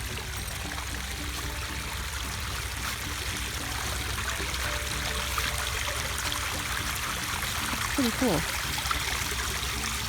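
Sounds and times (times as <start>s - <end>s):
water splashing from water feature: 0.0s - 10.0s.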